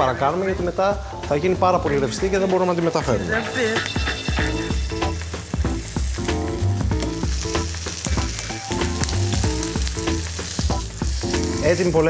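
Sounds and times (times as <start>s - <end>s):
background music with bass: 0.0s - 12.0s
food frying in oil: 1.9s - 12.0s.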